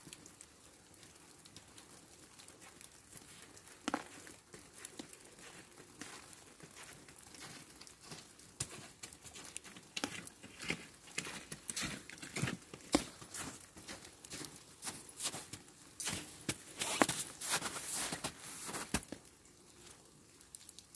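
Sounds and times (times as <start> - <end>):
falling snow pattering: 0.0 - 20.9.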